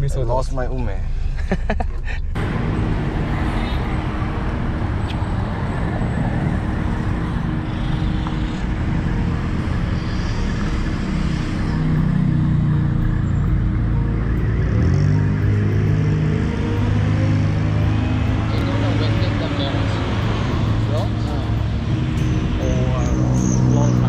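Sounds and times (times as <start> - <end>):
cars and motorbikes passing: 2.3 - 24.0.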